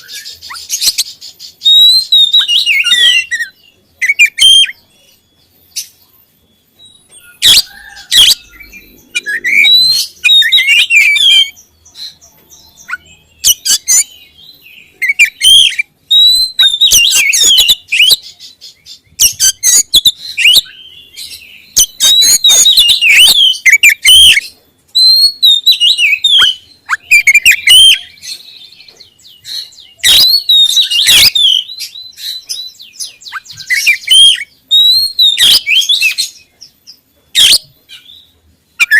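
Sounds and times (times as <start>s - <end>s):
bird singing whistled phrases: 0.0s - 18.3s, 19.2s - 24.4s, 25.0s - 28.7s, 29.3s - 36.4s.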